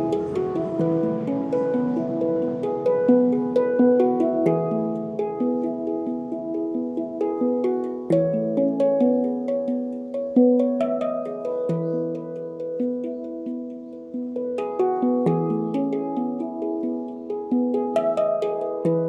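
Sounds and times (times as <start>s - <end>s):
handpan melody: 0.0s - 19.0s.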